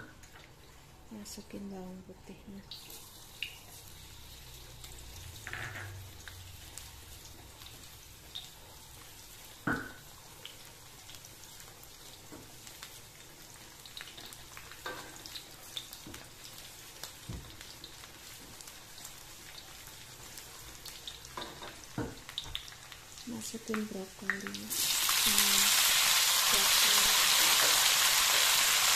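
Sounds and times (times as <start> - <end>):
garlic sizzling in hot oil: 2.7 - 28.9.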